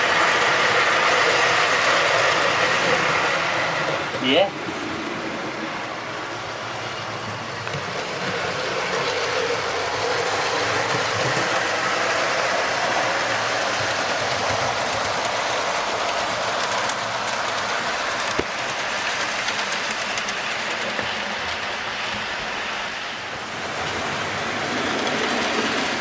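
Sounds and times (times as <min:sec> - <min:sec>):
model train motor whirring: 0:00.0 - 0:04.2, 0:05.8 - 0:22.9.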